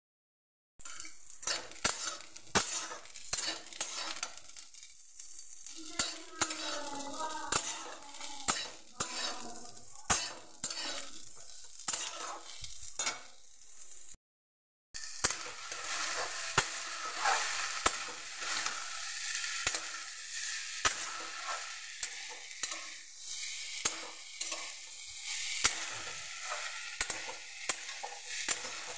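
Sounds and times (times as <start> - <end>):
metal spatula scraping pan: 0.8 - 14.0, 15.0 - 28.9
food sizzling in hot oil: 0.8 - 14.2, 15.0 - 28.9.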